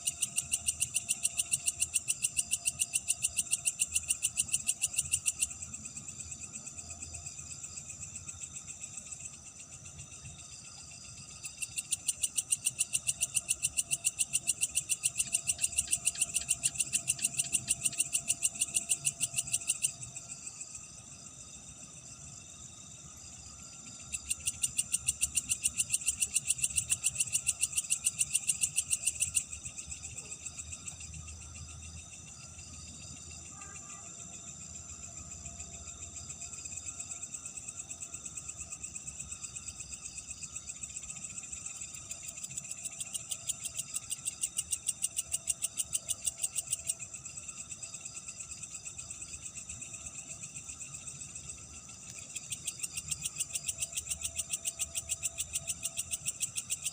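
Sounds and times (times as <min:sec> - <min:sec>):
fast pulsing insect trill: 0:00.0 - 0:56.9.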